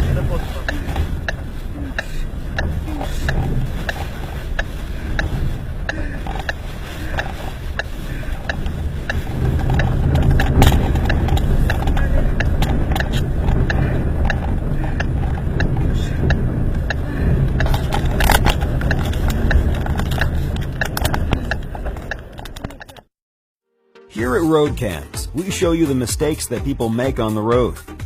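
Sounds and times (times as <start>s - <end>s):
sharp clicks and knocks: 0.0s - 23.1s
strong wind buffeting car: 0.0s - 23.1s.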